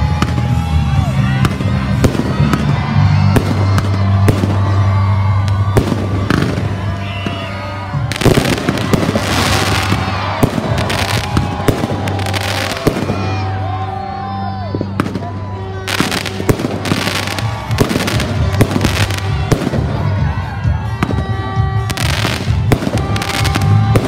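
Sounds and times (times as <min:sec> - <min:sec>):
firework crackling: 0:00.0 - 0:13.7, 0:15.0 - 0:20.2, 0:21.0 - 0:24.0
background music: 0:00.0 - 0:24.0
firework bangs: 0:01.4 - 0:13.5, 0:14.8 - 0:20.2, 0:21.0 - 0:24.0.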